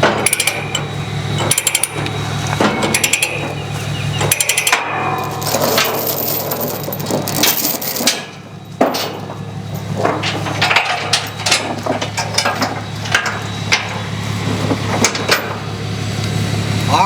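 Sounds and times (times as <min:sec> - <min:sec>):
tie-down gear knocking and clanking: 0:00.0 - 0:15.7
steady low hum: 0:00.0 - 0:17.0.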